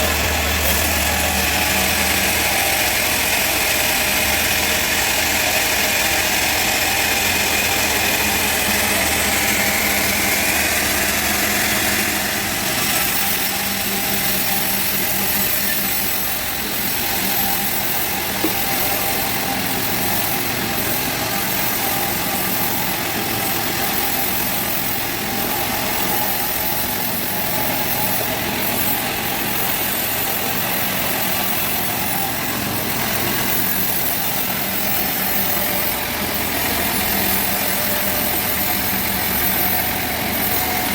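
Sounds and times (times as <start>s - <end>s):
machinery hissing: 0.0s - 40.9s
sawmill engine drone: 0.0s - 40.9s.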